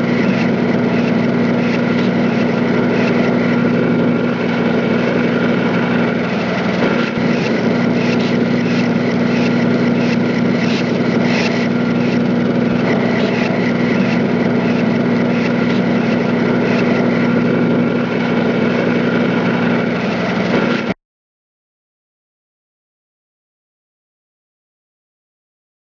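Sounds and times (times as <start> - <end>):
motor humming with whir: 0.0 - 21.0.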